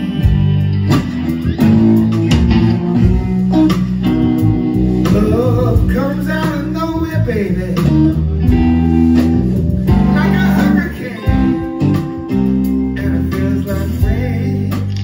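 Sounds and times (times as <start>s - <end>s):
electric blues band playing: 0.0s - 15.0s
vibrato guitar melody notes: 0.0s - 15.0s.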